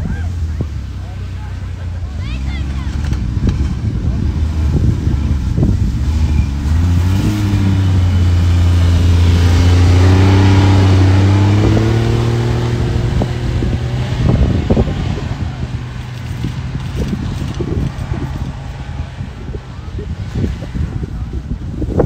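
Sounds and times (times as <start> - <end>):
motor vehicle engine passing: 0.0 - 22.0.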